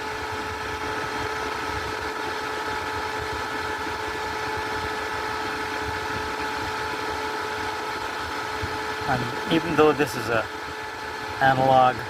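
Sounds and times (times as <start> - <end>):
air conditioner fan whining: 0.0 - 12.0.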